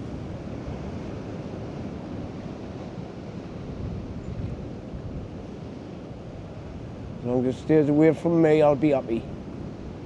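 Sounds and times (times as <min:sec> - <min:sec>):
sea waves: 0:00.0 - 0:10.0
wind buffeting microphone: 0:00.0 - 0:10.0.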